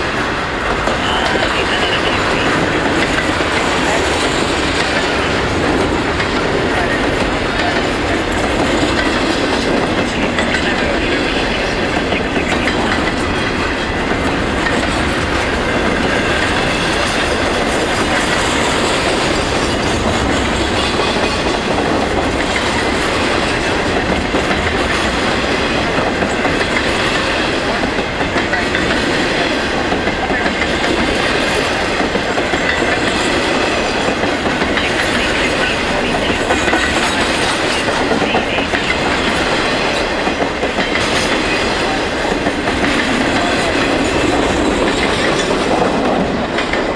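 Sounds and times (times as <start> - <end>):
freight train wheels on rail: 0.0 - 46.9.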